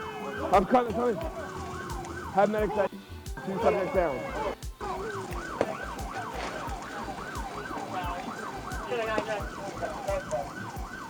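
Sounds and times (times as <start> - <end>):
emergency siren yelping: 0.0 - 11.0.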